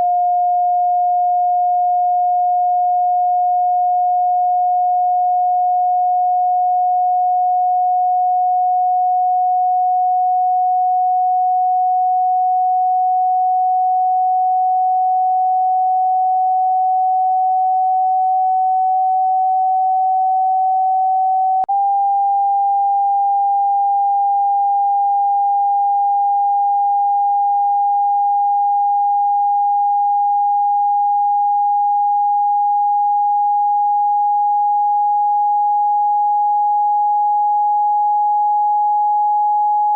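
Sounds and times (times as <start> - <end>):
sine test tone rising in pitch: 0.0 - 39.9.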